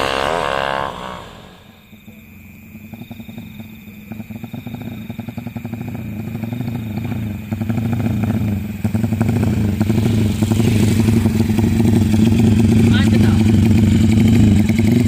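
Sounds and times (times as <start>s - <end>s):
motorcycle engine approaching: 0.0s - 15.0s.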